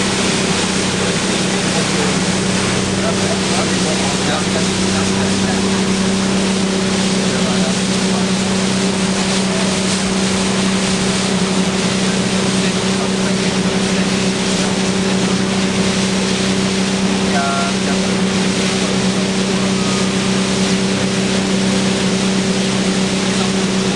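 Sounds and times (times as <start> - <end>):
motorboat engine running: 0.0 - 23.9
water rushing: 0.0 - 23.9.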